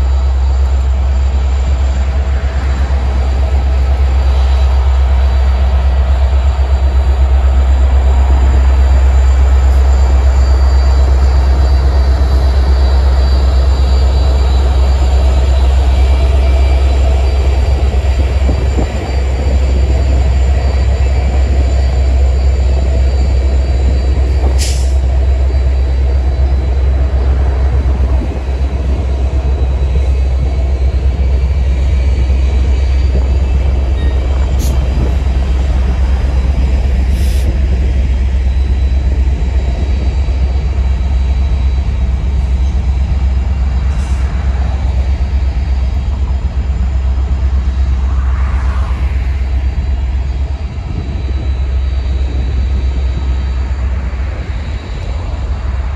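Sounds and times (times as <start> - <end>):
freight train rumbling: 0.0 - 55.9.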